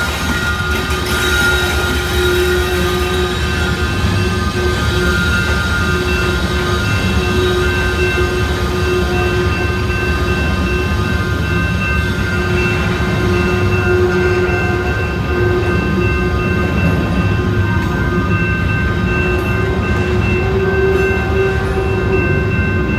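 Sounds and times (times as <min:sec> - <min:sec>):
train wheels rumbling: 0:00.0 - 0:22.9.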